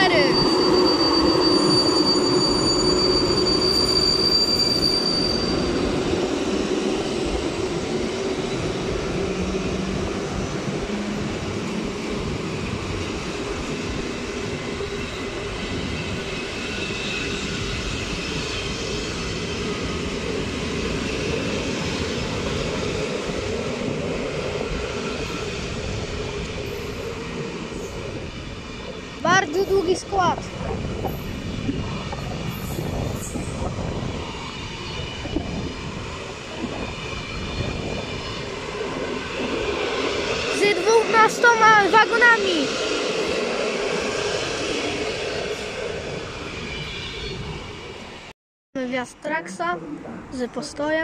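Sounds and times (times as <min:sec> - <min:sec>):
train wheels rumbling on track: 0:00.0 - 0:48.3.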